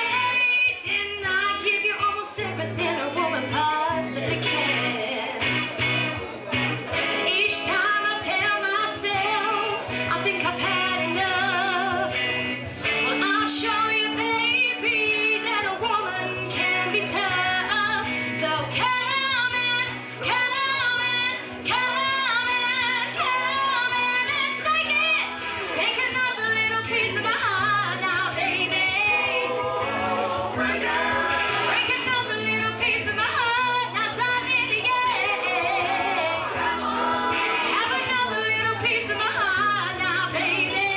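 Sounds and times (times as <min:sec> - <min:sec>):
woman singing with vibrato: 0:00.0 - 0:05.4, 0:07.2 - 0:40.9.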